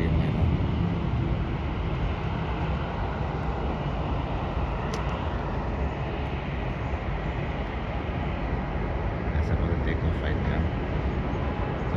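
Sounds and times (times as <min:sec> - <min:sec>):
distant jet engines rumbling: 0:00.0 - 0:11.9.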